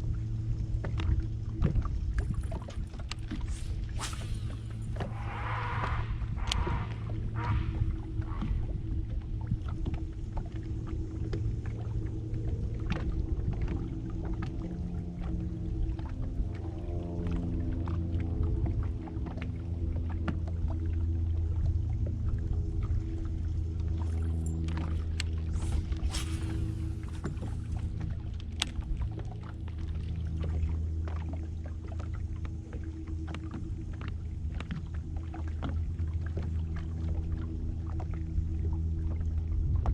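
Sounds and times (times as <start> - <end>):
boat motor humming: 0.0 - 39.9.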